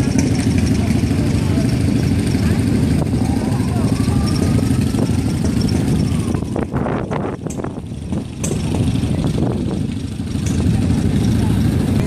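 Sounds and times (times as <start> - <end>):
motorcycle engines idling: 0.0 - 12.0.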